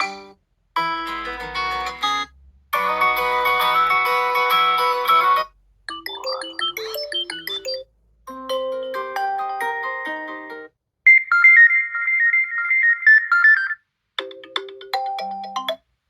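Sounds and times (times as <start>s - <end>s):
phone ringtone melodies: 2.8s - 15.8s.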